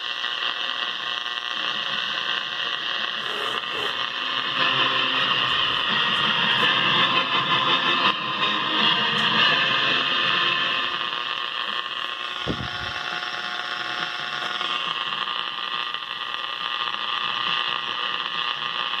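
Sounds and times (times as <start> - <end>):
radio static hiss and buzz: 0.0 - 19.0.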